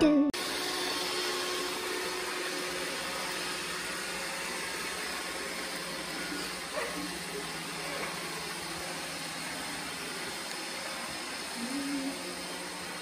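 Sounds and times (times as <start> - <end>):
robot vacuum whirring: 0.4 - 13.0.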